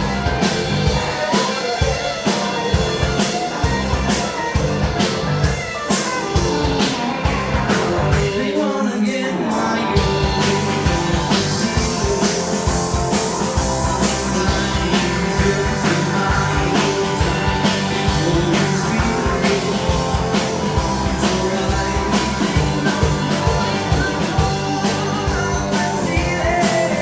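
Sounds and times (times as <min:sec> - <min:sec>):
steady drum beat: 0:00.0 - 0:08.6, 0:10.0 - 0:27.0
bass guitar: 0:00.0 - 0:27.0
electric guitar: 0:00.0 - 0:27.0.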